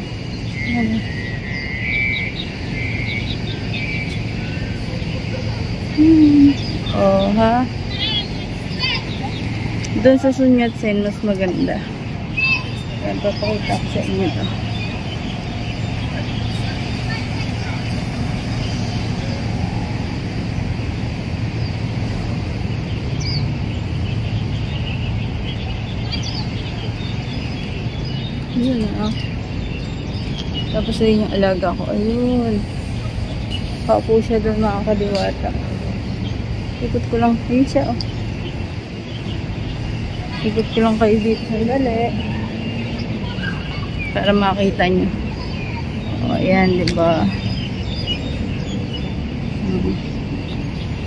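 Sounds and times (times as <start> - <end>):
low traffic rumble: 0.0 - 51.0
small birds chirping: 0.0 - 51.0.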